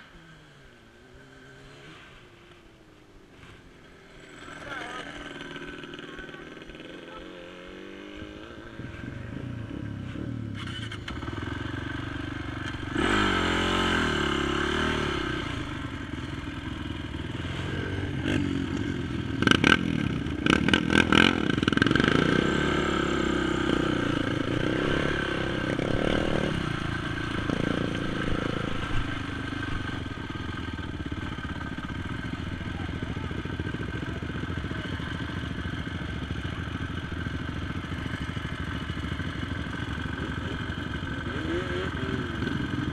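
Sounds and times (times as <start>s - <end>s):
atv engine revving: 3.8s - 42.9s.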